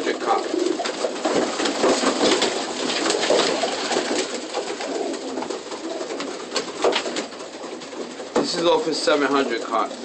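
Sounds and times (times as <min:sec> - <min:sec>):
pigeons cooing: 0:00.0 - 0:10.0
rustles and clicks: 0:00.5 - 0:10.0.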